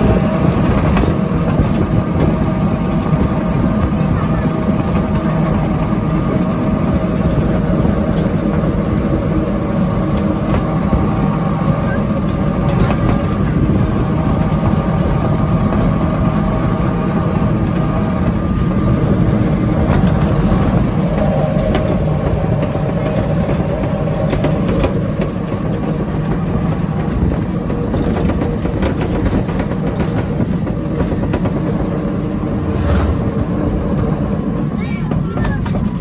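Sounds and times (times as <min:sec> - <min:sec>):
auto-rickshaw engine running: 0:00.0 - 0:36.0
road noise: 0:00.0 - 0:36.0.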